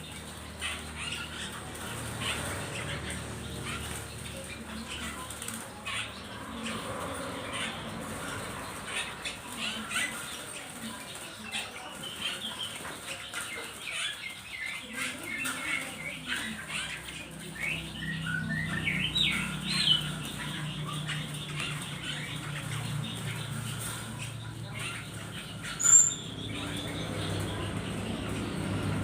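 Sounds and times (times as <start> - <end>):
small birds chirping and twittering: 0.0 - 29.0.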